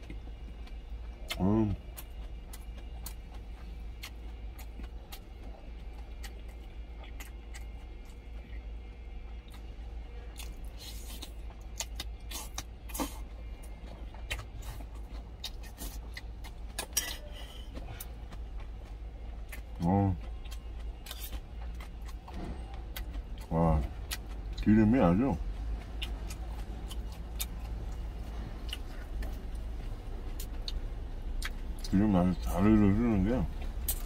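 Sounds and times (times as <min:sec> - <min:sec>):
person chewing: 0:00.0 - 0:34.0
steady low hum: 0:00.0 - 0:34.0.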